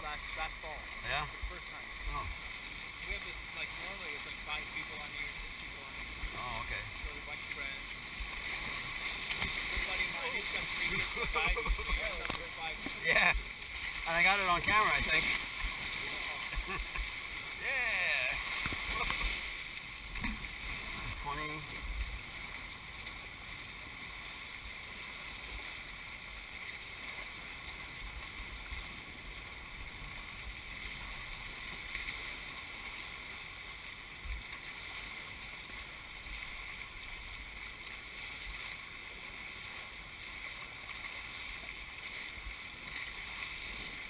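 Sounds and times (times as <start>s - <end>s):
water rushing along boat hulls: 0.0s - 44.0s.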